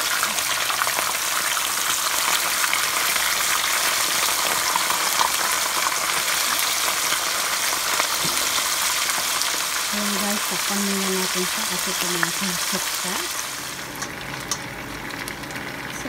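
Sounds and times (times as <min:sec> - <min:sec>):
fish deep-frying sizzle: 0:00.0 - 0:16.0.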